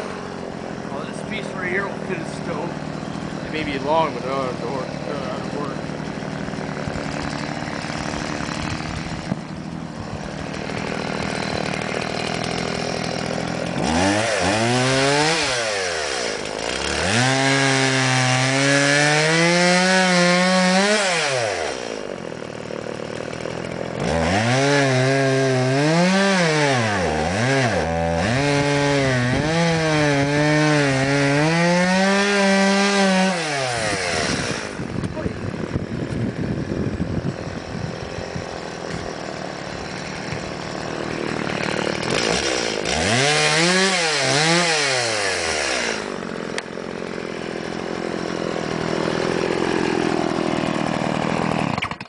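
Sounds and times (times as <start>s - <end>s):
chainsaw cutting logs: 0.0s - 52.0s.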